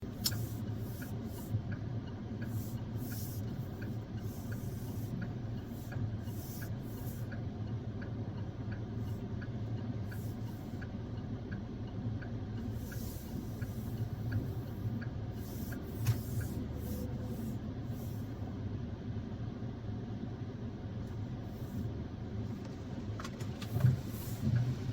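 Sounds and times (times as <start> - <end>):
road and engine rumble: 0.0 - 24.9.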